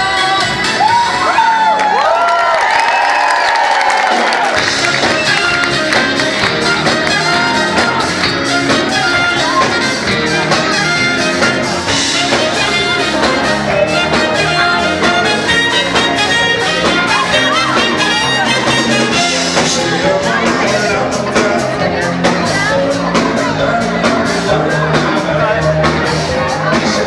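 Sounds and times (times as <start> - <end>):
live band playing dance music: 0.0 - 27.0.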